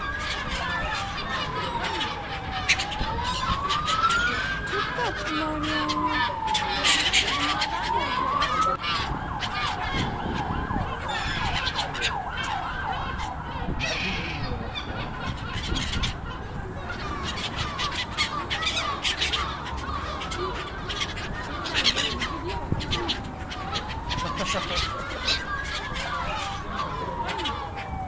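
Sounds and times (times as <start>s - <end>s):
seagulls calling: 0.0s - 28.0s.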